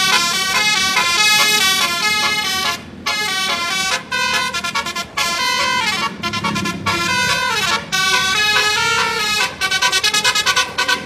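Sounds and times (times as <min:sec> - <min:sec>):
bus musical air horn: 0:00.0 - 0:11.0.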